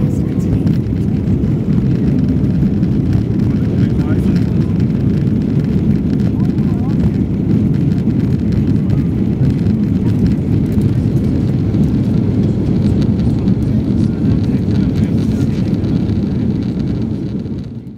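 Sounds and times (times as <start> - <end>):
jet engines and airflow rumble: 0.0 - 17.9.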